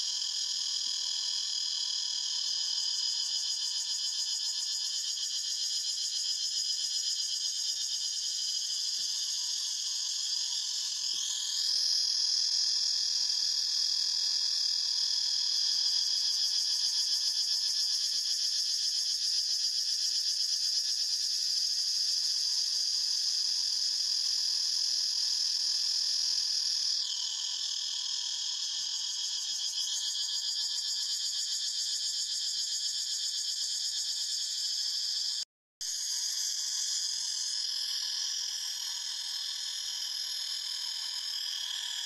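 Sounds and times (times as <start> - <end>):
cicadas chorus: 0.0 - 42.0
loud cicada call rising in pitch: 2.4 - 42.0.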